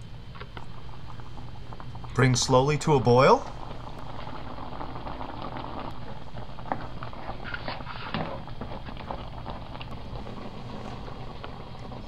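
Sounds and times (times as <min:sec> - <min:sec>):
food bubbling in a skillet: 0:00.0 - 0:12.0.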